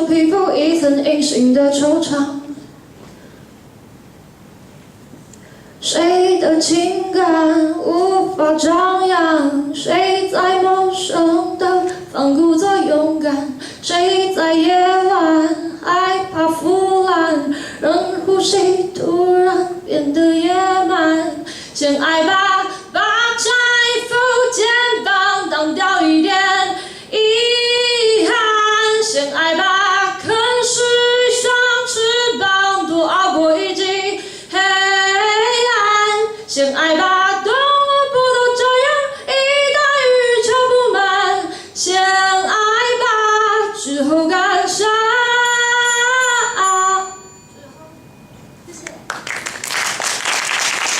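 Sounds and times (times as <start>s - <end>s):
woman singing pop song: 5.8s - 47.3s.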